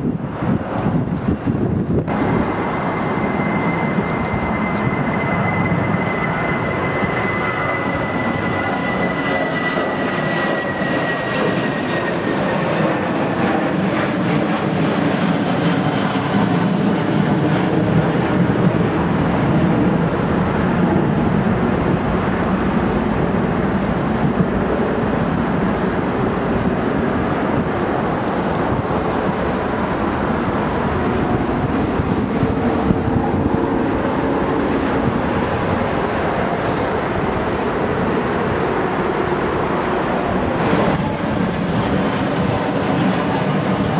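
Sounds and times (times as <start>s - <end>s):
high engine whine: 0.0s - 43.9s
jet engines roaring: 0.0s - 43.9s.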